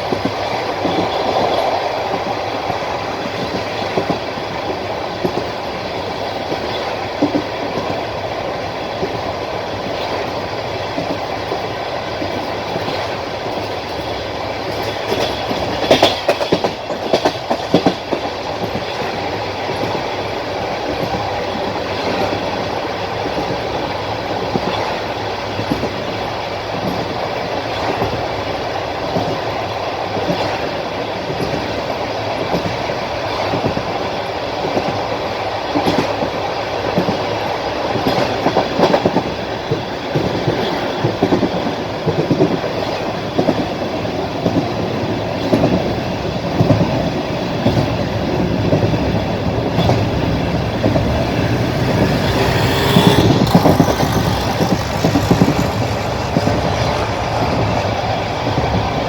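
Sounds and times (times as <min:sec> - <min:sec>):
train running rumble: 0:00.0 - 0:59.0
train wheels clacking on rails: 0:00.0 - 0:59.0.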